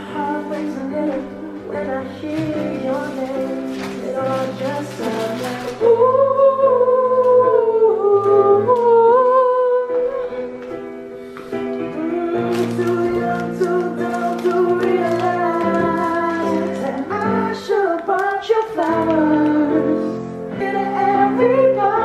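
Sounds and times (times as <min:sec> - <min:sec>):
song from vinyl record: 0:00.0 - 0:22.0.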